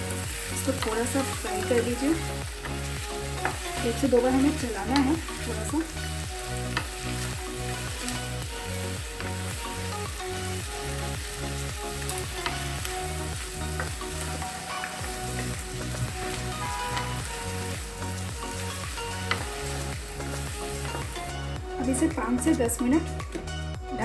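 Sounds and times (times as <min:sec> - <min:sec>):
food sizzling in butter: 0:00.0 - 0:23.4
music with low beat: 0:00.0 - 0:24.0.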